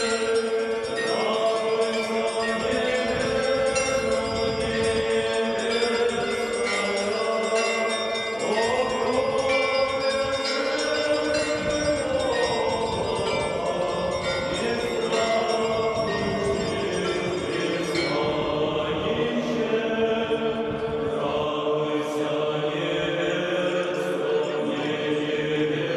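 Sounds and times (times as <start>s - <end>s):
bells chiming: 0.0s - 25.9s
voices singing a church chant: 0.0s - 25.9s.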